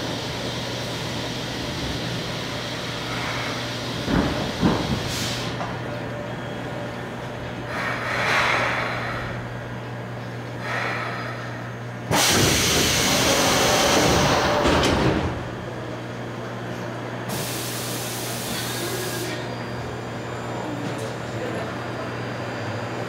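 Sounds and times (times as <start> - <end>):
subway car low hum: 0.0 - 23.0.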